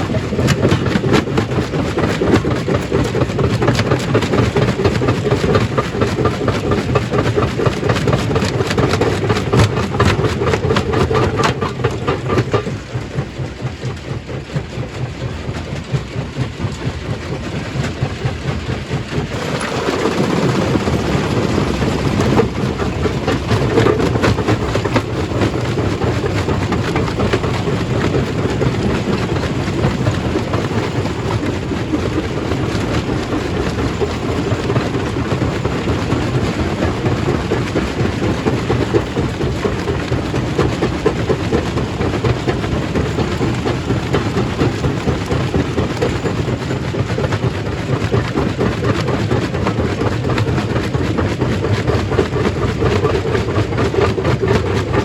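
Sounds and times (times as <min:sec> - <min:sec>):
stone crusher rattling rumble: 0:00.0 - 0:13.5, 0:16.9 - 0:55.0.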